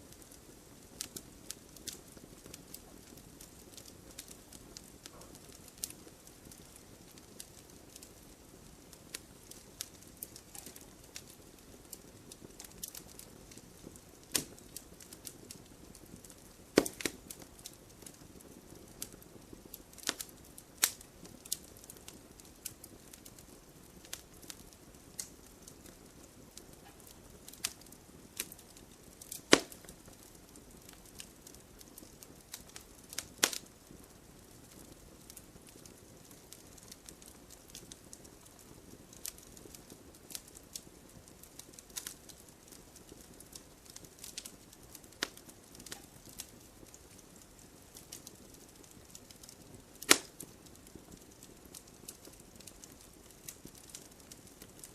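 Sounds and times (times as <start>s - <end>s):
firewood crackling and popping: 0.0s - 54.9s
soft low fire hiss: 0.0s - 54.9s.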